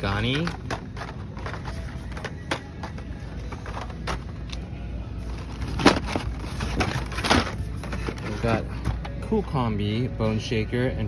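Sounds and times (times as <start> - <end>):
background music: 0.0 - 11.0
low steady hum: 0.0 - 11.0.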